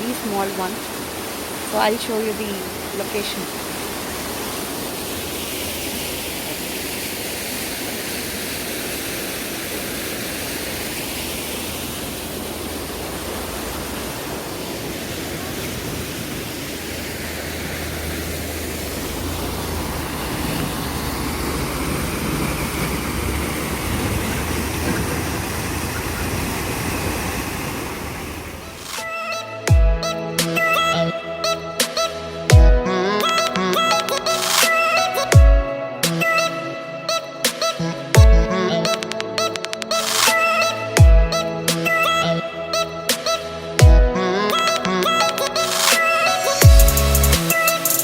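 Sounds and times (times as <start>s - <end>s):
waterfall rushing: 0.0s - 29.6s, 39.0s - 48.0s.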